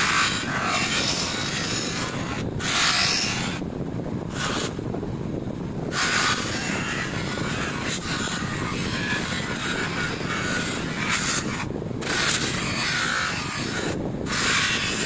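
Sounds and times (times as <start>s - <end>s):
abrasive scraping on metal: 0.0s - 3.6s, 4.3s - 4.9s, 5.9s - 15.0s
steady low hum: 0.0s - 15.0s.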